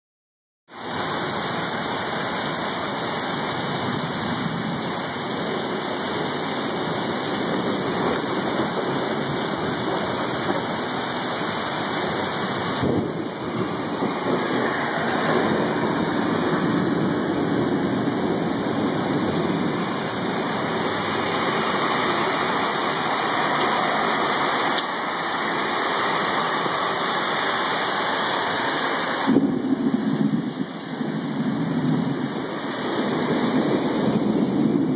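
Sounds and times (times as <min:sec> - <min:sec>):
heavy rain pouring: 0:00.7 - 0:34.9.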